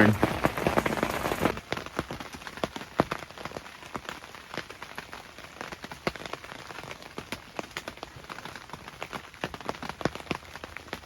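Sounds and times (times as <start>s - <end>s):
heavy rain falling: 0.0s - 11.0s
raindrops tapping: 0.0s - 11.0s.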